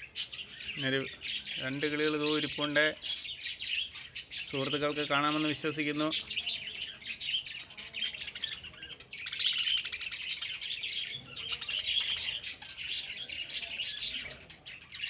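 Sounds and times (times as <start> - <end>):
birds chattering: 0.0 - 15.0.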